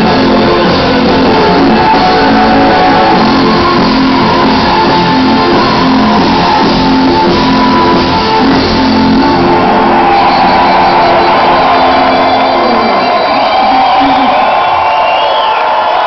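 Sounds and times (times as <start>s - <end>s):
electric guitar: 0.0s - 14.6s
live rock band playing: 0.0s - 14.7s.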